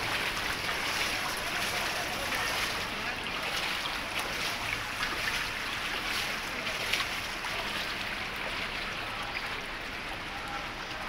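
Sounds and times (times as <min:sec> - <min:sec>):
floodwater sloshing and lapping: 0:00.0 - 0:11.0.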